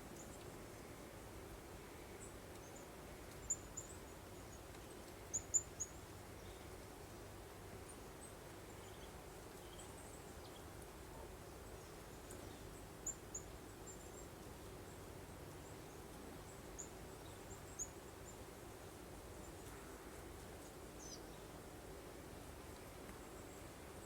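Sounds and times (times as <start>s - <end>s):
faint breeze hiss: 0.0s - 24.0s.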